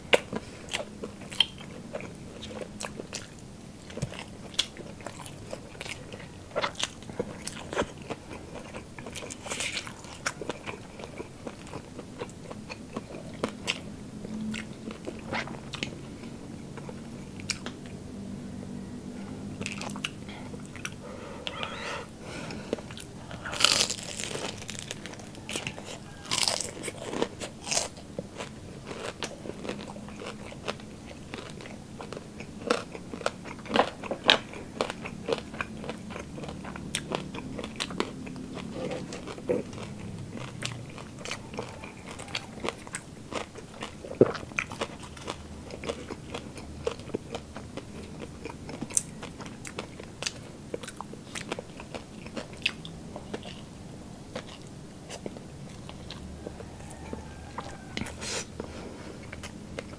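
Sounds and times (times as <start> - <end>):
crunching fried food: 0.0 - 18.0, 22.4 - 59.9
soft chewing: 0.0 - 59.9.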